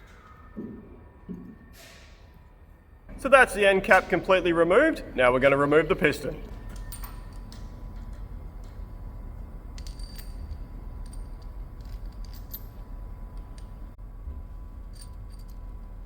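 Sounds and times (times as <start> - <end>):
low workshop hum: 0.0 - 16.0.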